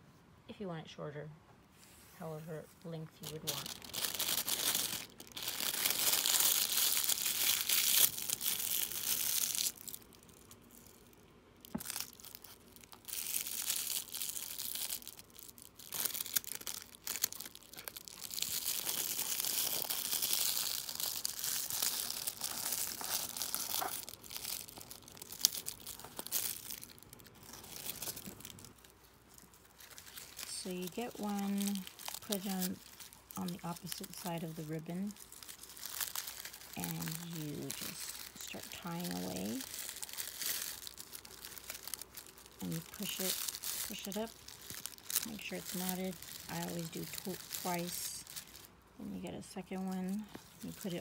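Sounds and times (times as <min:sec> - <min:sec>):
cellophane crinkling: 0:02.8 - 0:51.0.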